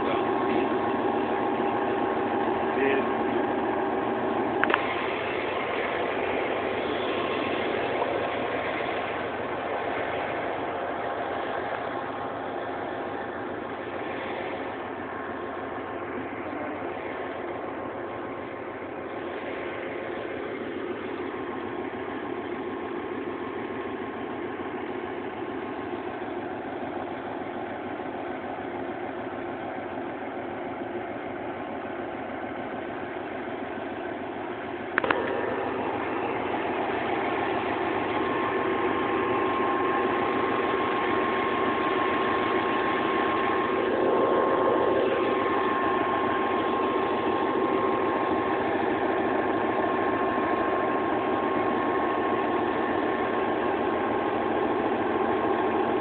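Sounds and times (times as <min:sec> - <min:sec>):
train engine hum: 0:00.0 - 0:56.0.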